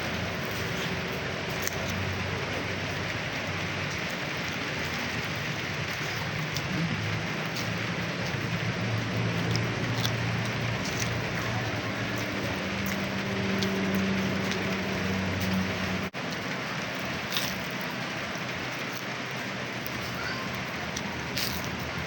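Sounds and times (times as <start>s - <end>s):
light rain patter: 0.0s - 22.0s.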